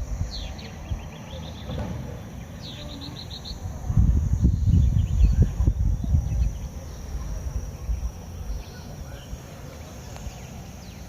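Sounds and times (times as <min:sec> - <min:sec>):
high-pitched insect drone: 0:00.0 - 0:11.0
small bird chirping: 0:00.0 - 0:11.0.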